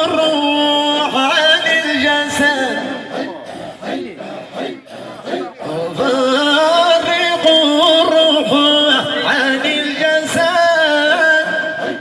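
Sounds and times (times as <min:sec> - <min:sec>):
men singing a praise chant: 0:00.0 - 0:12.0.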